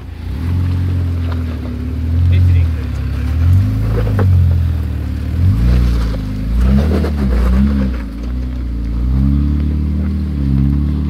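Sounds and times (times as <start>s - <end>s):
car engine working under load: 0.0s - 11.0s
tyres crunching over dirt and stones: 0.1s - 11.0s.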